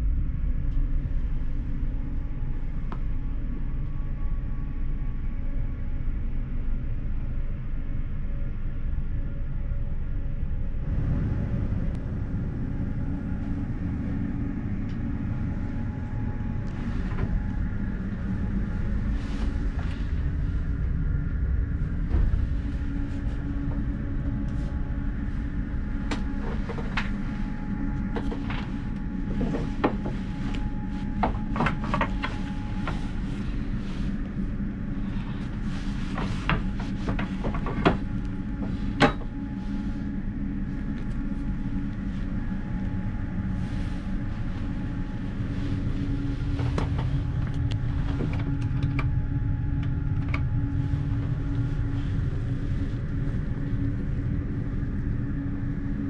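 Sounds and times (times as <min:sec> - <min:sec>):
train rumble inside carriage: 0:00.0 - 0:56.0.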